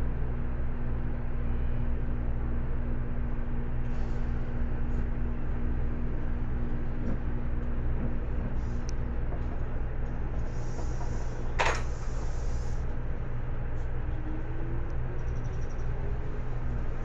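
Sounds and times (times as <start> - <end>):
train wheels rumbling on rail: 2.1 - 17.0.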